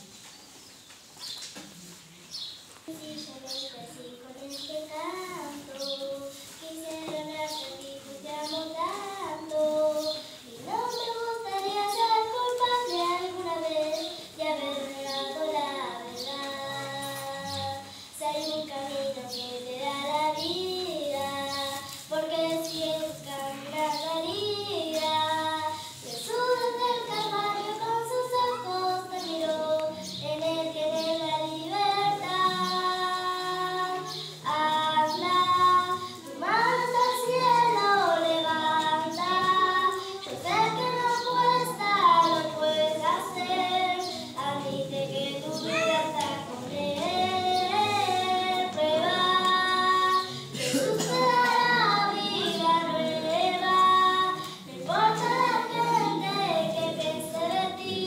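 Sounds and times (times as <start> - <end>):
girl singing into a microphone: 2.9 - 58.0.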